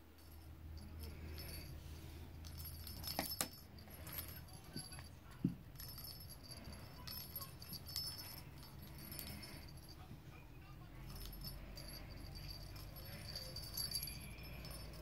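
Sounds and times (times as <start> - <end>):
jingle bell tinkling: 0.0 - 15.0.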